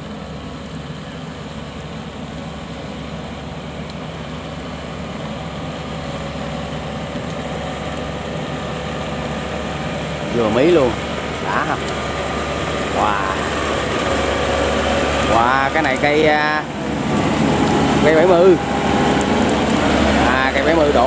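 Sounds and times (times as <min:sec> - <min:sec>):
combine harvester diesel engine: 0:00.0 - 0:21.0.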